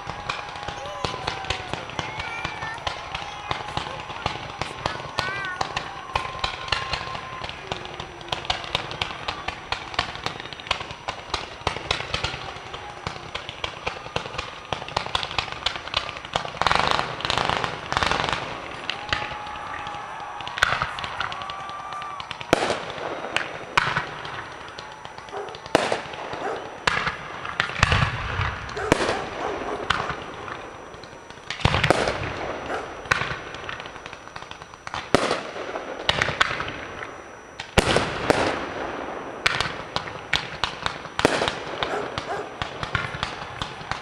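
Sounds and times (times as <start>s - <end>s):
firework fountains crackling: 0.0s - 44.0s.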